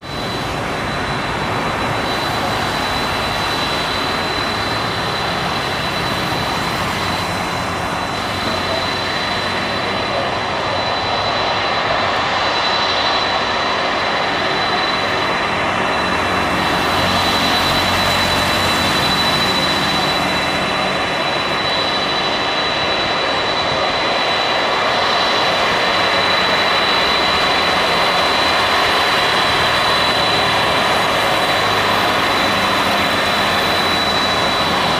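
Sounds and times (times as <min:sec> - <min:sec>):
jet engines running: 0:00.0 - 0:34.9.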